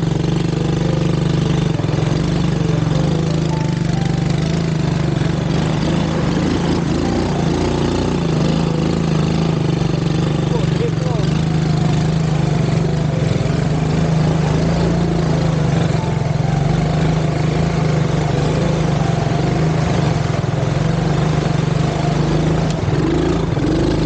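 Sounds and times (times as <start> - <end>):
quad engine running: 0.0 - 24.0
wading through muddy water: 0.0 - 24.0.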